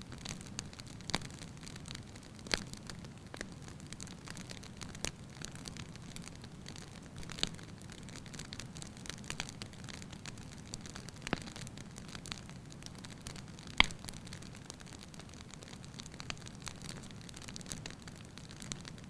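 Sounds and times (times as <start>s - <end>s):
fire crackling and popping: 0.0s - 19.0s
wood fire burning: 0.0s - 19.0s.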